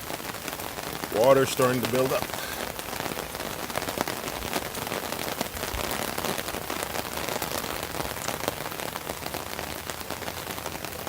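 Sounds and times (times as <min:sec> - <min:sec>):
raindrops ticking: 0:00.0 - 0:11.0
steady rain falling: 0:00.0 - 0:11.0.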